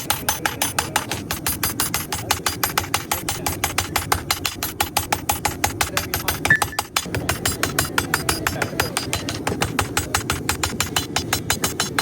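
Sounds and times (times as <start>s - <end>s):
power hammer striking steel: 0.0s - 12.0s.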